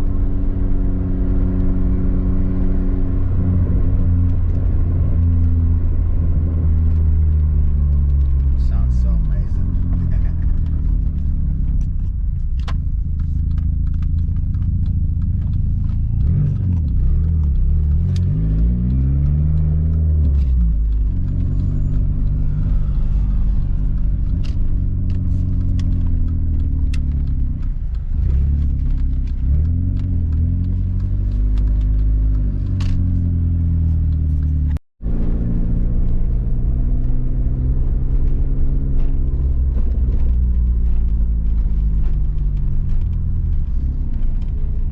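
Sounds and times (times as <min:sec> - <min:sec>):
car engine and road rumble: 0:00.0 - 0:44.9.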